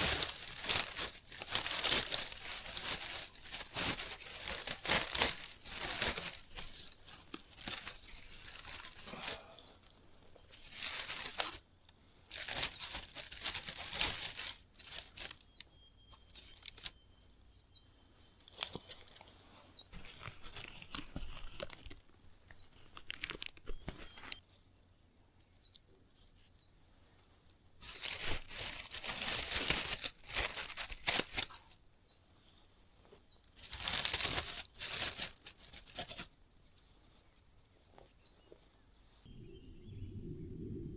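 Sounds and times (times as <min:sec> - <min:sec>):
rustling and crinkling: 0:00.0 - 0:39.3
small birds chirping: 0:00.0 - 0:40.9.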